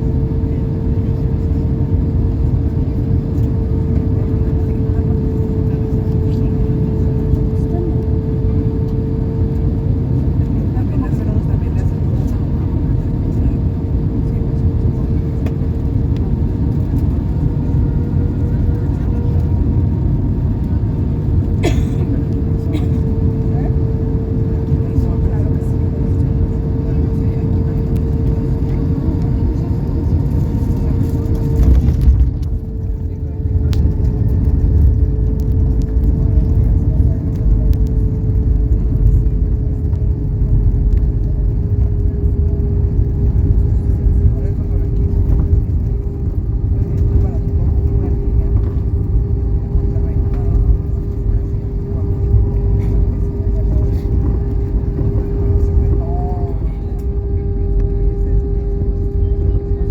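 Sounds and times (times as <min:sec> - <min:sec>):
airliner cabin rumble: 0:00.0 - 0:59.9
constant hum: 0:00.0 - 0:59.9.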